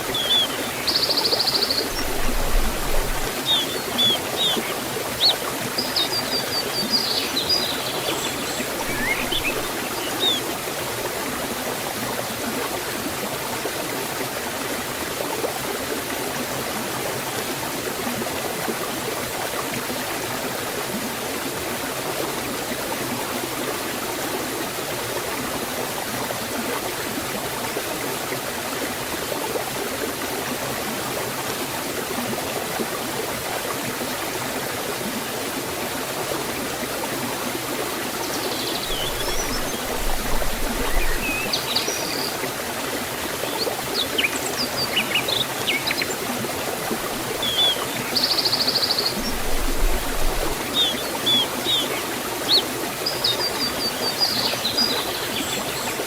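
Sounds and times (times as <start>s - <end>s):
waterfall and stream rushing: 0.0s - 56.0s.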